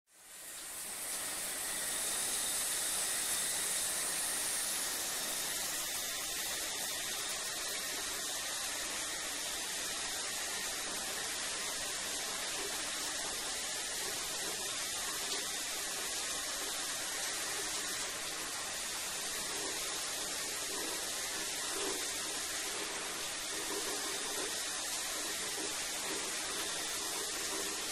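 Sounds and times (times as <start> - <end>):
shower running: 0.1 - 27.9.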